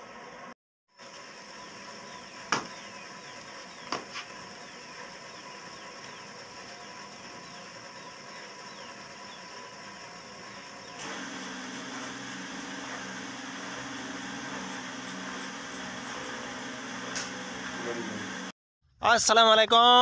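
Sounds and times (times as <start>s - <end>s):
mechanical hum: 0.0s - 18.5s.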